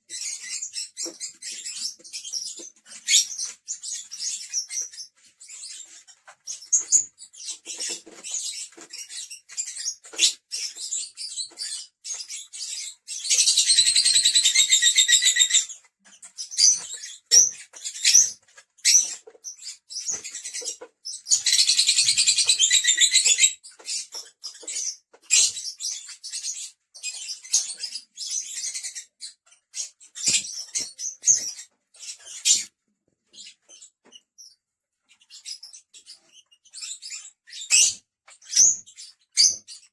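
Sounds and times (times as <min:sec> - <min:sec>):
lovebirds chirping: 0:00.0 - 0:39.9
rapid bird chattering: 0:00.1 - 0:32.7.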